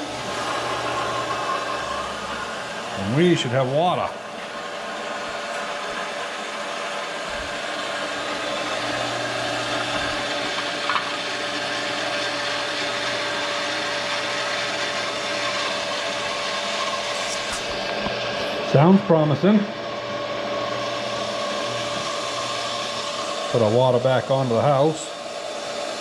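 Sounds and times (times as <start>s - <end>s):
well pump motor humming: 0.0s - 26.0s.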